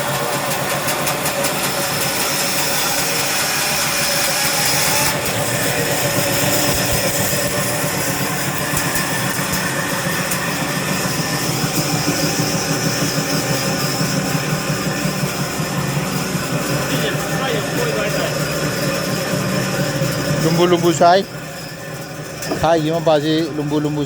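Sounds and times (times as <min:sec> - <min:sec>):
sawmill machinery motor drone: 0:00.0 - 0:24.0.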